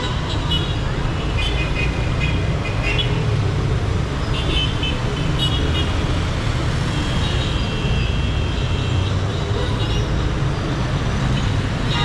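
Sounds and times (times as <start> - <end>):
city traffic rumbling: 0.0 - 12.0.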